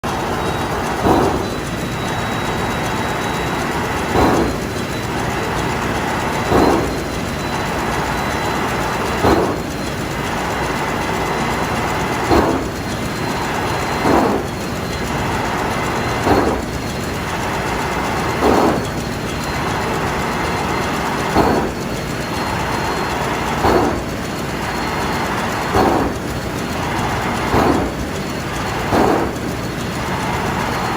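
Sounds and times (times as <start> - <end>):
engine room running: 0.0 - 30.9.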